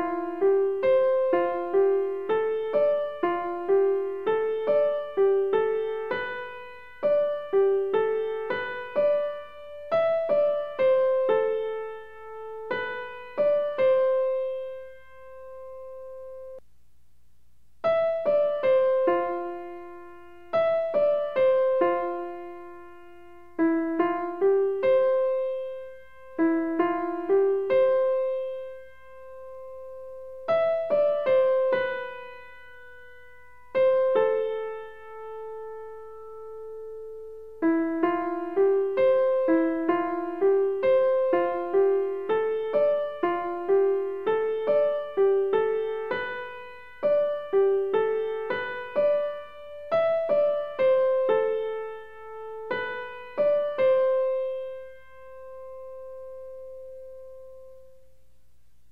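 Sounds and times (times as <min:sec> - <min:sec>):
slow piano melody: 0:00.0 - 0:16.6, 0:17.8 - 0:58.9.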